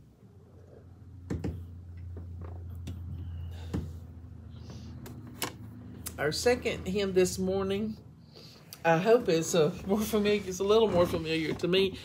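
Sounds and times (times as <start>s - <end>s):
vehicles driving past: 0.8s - 10.9s.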